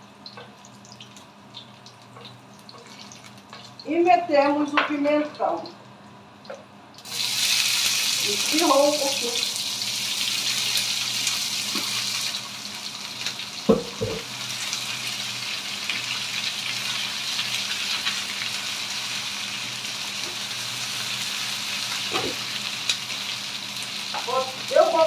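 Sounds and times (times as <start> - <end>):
peppers sizzling in hot oil: 0.0 - 5.7, 7.0 - 25.0.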